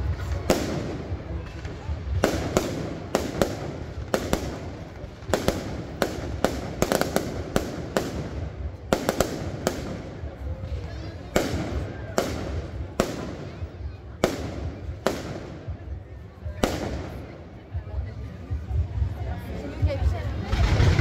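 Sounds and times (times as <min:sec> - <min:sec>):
fireworks bangs: 0:00.0 - 0:17.4, 0:20.4 - 0:21.0.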